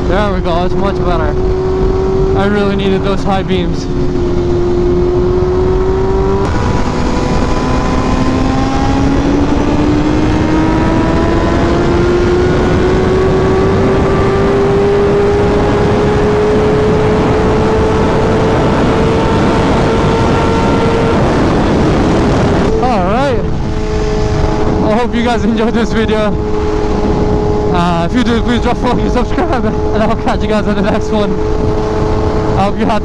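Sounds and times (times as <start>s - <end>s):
motorcycle engine accelerating: 0.0s - 33.0s
wind rushing over microphone: 0.0s - 33.0s.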